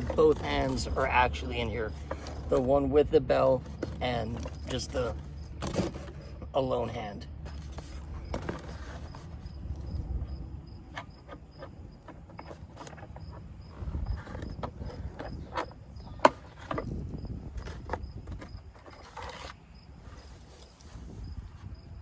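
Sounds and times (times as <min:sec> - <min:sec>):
packaging clicks and rustles: 0:00.0 - 0:06.6, 0:07.3 - 0:10.0, 0:10.8 - 0:21.6
cricket chirping: 0:00.4 - 0:22.0.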